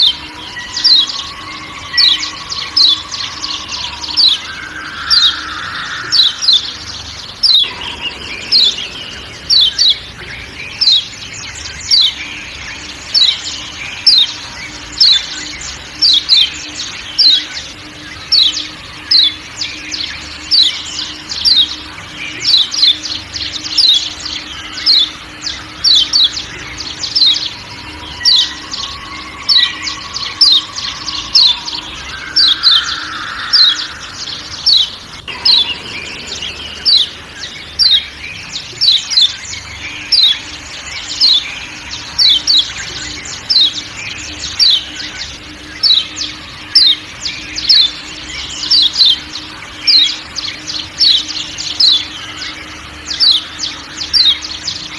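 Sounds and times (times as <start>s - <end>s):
forest background sound: 0.0s - 54.9s
sharp high bird notes: 0.0s - 54.9s.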